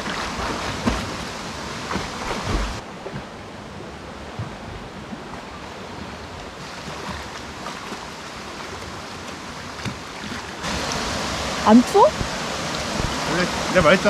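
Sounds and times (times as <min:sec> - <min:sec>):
stream rushing over rocks: 0:00.0 - 0:03.0, 0:05.4 - 0:14.0.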